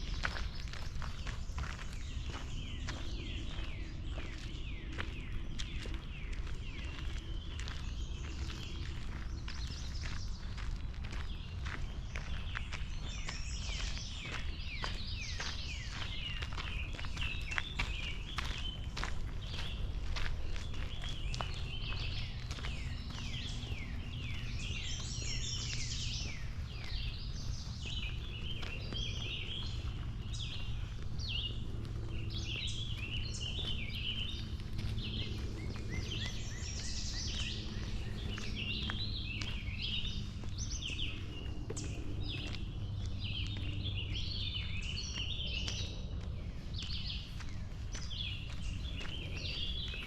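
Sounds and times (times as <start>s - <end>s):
songbirds chirping and trilling: 0.0s - 50.0s
steady low rumble: 0.0s - 50.0s.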